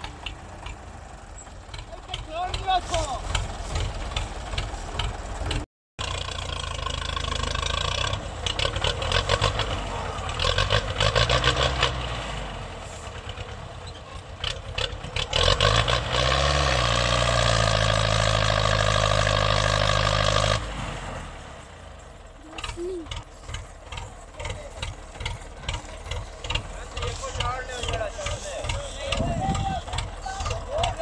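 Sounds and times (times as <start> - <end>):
tractor diesel engine straining: 0.0 - 31.0.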